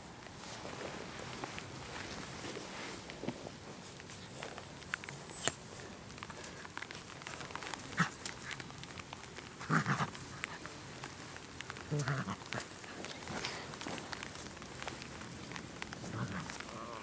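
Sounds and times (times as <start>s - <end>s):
small clicks and rustles: 0.0s - 17.0s.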